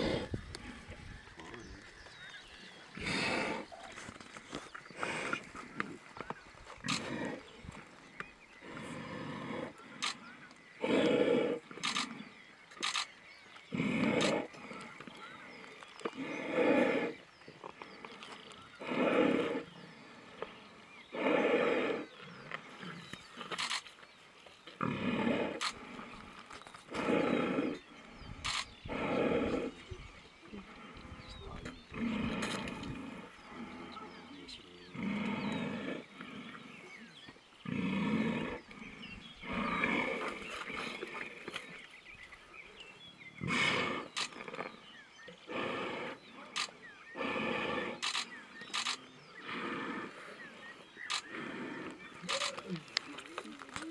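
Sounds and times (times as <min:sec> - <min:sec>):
deep animal calls: 0:00.0 - 0:53.9.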